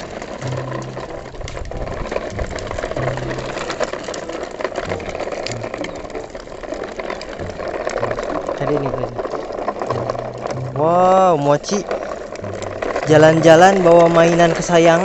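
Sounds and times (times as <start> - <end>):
toy truck rattling on concrete: 0.0 - 15.0.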